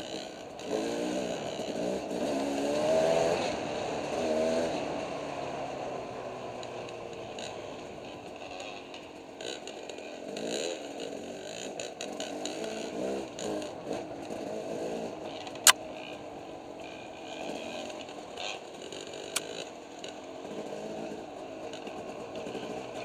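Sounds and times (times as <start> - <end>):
two-stroke dirt bike engine: 0.0 - 23.0.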